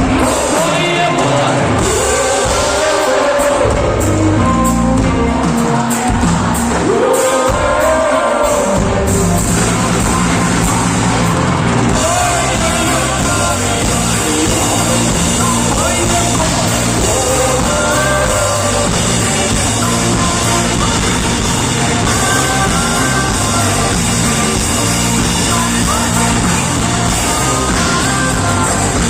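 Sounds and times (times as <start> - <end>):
person singing: 0.0 - 29.0
rock band playing: 0.0 - 29.0.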